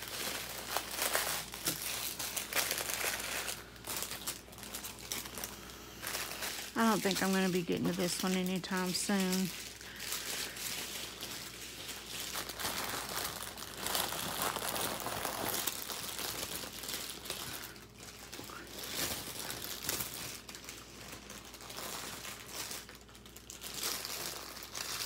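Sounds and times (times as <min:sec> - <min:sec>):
plastic packaging crinkling: 0:00.0 - 0:25.0.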